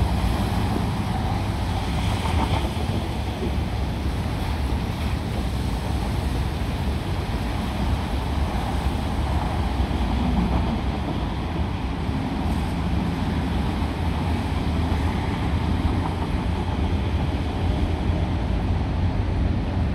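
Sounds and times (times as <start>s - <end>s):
traffic on a wet road: 0.0s - 19.9s.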